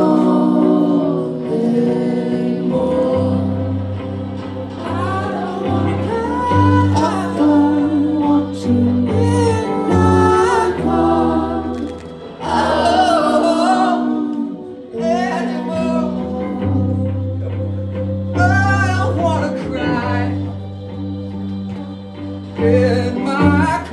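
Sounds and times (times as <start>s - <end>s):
bass notes: 0.0s - 23.9s
electric guitars: 0.0s - 23.9s
person singing: 0.0s - 23.9s.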